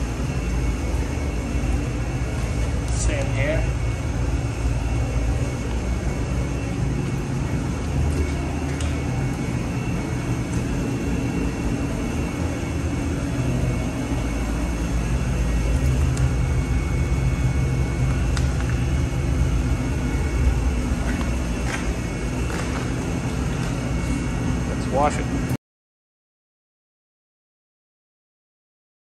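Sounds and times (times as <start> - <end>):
high whine: 0.0 - 25.6
low mechanical rumble: 0.0 - 25.6.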